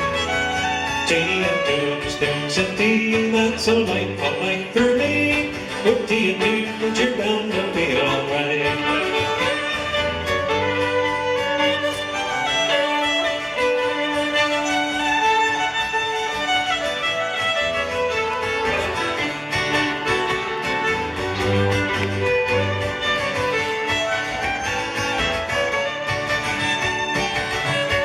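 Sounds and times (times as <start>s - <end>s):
fiddle playing melody: 0.0s - 28.0s
guitar accompaniment: 0.0s - 28.0s.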